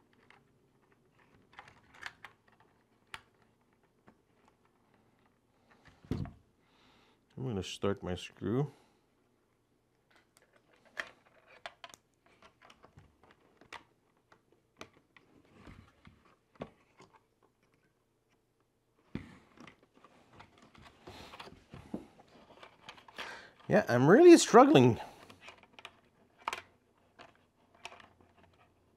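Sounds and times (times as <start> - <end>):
rustling of handling: 0.0 - 6.4, 9.4 - 28.9.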